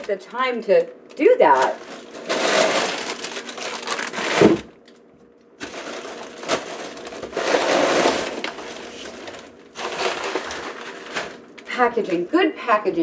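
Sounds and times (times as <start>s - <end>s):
plastic and foil crinkling: 1.1s - 5.0s, 5.6s - 12.4s.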